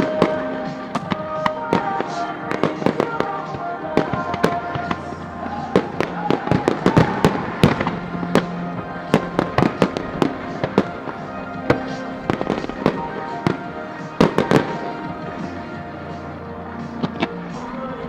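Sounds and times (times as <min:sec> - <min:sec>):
fireworks bangs and crackling: 0:00.0 - 0:18.0
music: 0:00.0 - 0:18.0.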